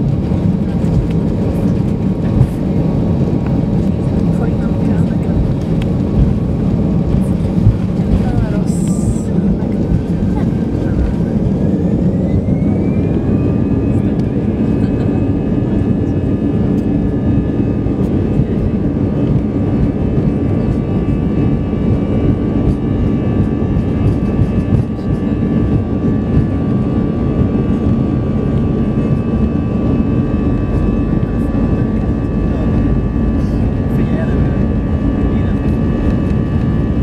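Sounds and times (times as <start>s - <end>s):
jet engines roaring with whine: 0.0s - 37.0s.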